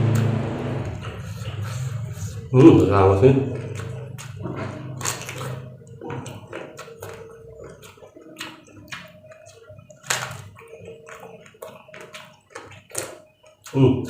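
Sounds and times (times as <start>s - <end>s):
chewing crisp vegetables: 0.1s - 14.0s.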